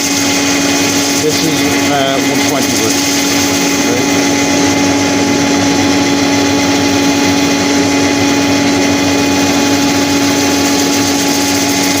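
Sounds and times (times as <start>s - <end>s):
dust extractor humming: 0.0s - 12.0s.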